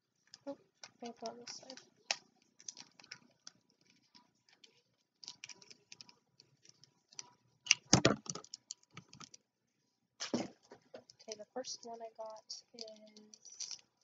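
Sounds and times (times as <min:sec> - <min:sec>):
plastic wrapper crinkling: 0:00.2 - 0:09.4, 0:10.2 - 0:14.0.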